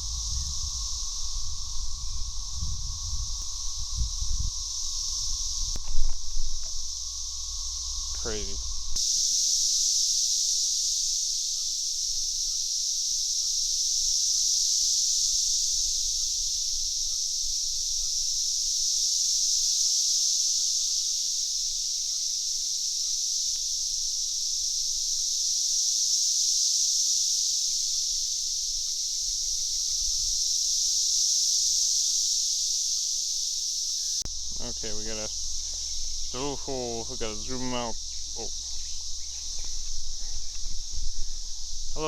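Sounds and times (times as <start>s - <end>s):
cicadas droning: 0.0s - 42.0s.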